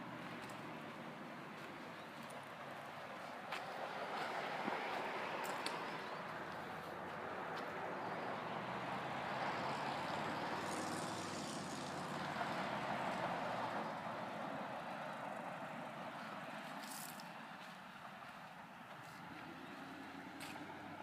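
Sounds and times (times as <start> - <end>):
low engine hum: 0.0 - 21.0
motor vehicle passing by: 0.0 - 21.0.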